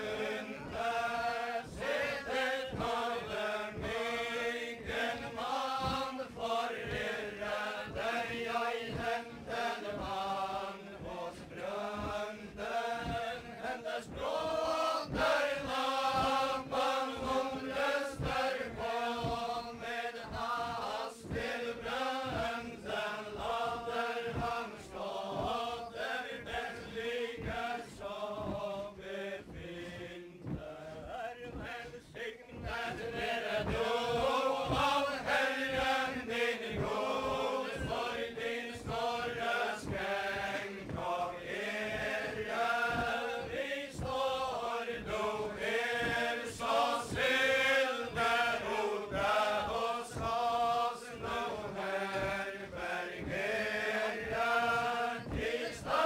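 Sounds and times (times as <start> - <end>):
group of men singing in unison: 0.0 - 56.0
thudding dance steps: 0.0 - 56.0.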